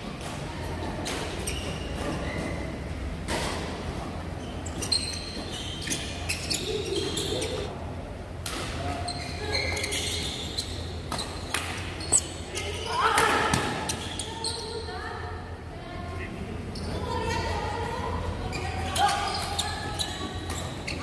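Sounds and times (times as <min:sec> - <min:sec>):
shoes squeaking on court floor: 0:00.0 - 0:07.8, 0:08.6 - 0:14.9, 0:16.7 - 0:21.0.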